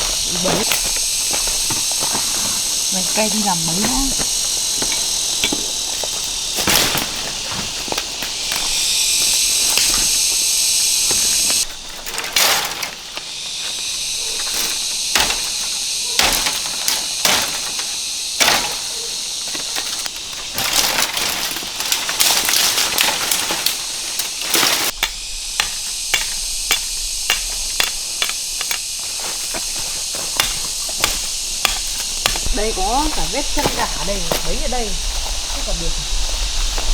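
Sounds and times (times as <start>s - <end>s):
sticks and brush handled: 0.0s - 34.9s
high insect chorus: 0.0s - 36.9s.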